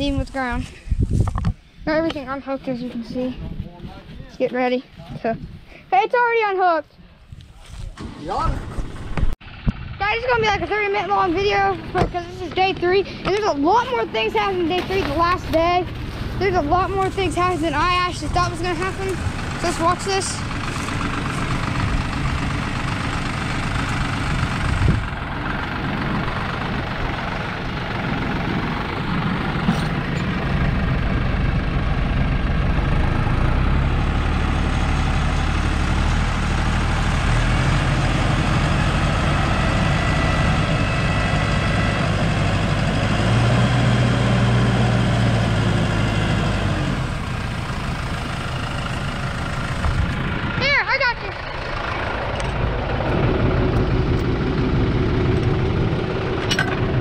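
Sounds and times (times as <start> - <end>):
tractor diesel engine under load: 0.0 - 5.6, 6.6 - 57.0.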